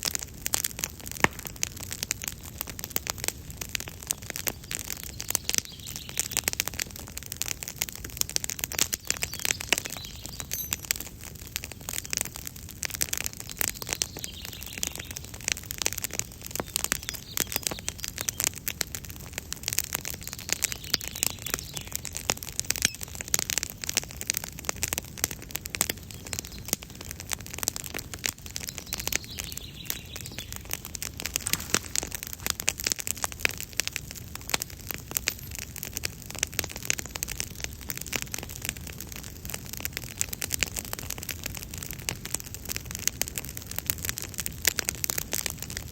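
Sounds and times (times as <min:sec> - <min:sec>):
campfire crackling and popping: 0:00.0 - 0:45.9.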